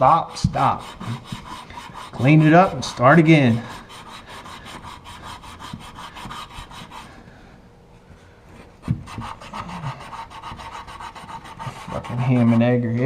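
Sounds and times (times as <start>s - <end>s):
scrubbing copper pipe: 0.0s - 7.2s, 8.8s - 13.0s.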